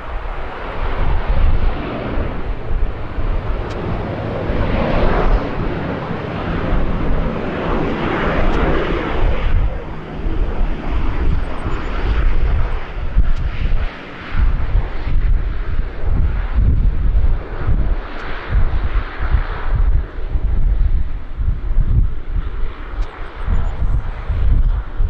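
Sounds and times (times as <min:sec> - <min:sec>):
jet engines rushing: 0:00.0 - 0:25.0
wind buffeting microphone: 0:00.0 - 0:25.0.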